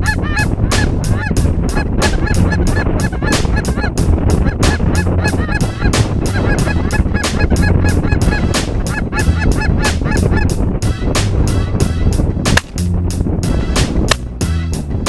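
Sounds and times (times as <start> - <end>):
geese honking and clucking: 0.0 - 12.1
low wind rumble: 0.0 - 15.0.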